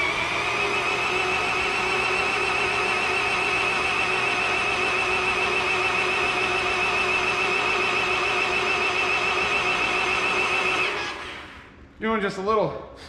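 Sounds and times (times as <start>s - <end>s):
electric drill whining under load: 0.0s - 11.8s.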